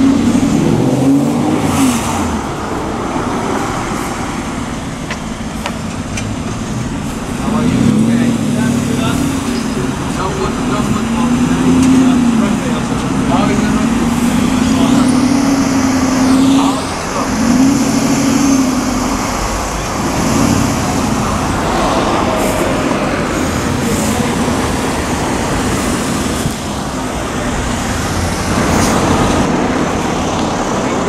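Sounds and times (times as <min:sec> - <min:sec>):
car engine pulling away: 0:00.0 - 0:31.0
street traffic: 0:00.0 - 0:31.0.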